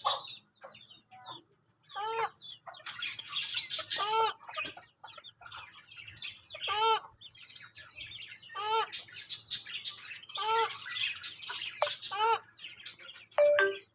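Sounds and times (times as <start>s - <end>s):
high-pitched bird chirping: 0.0s - 13.9s.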